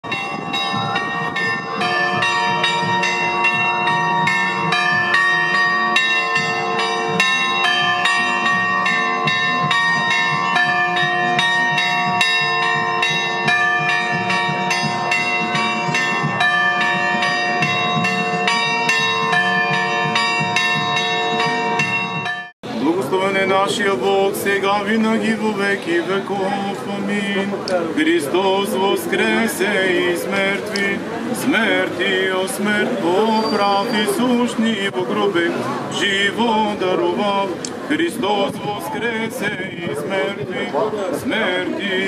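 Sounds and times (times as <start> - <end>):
church bells ringing: 0.0 - 42.0.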